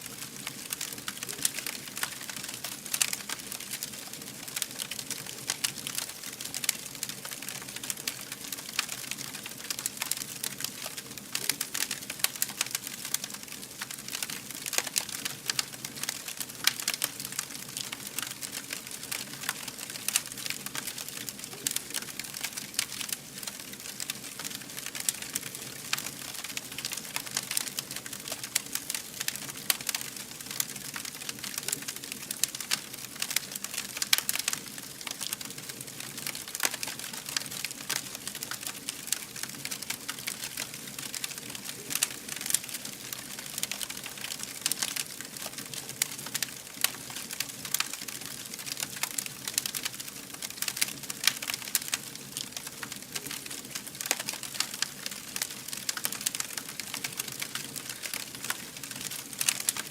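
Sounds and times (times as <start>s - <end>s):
fire crackling and hissing: 0.0s - 59.9s.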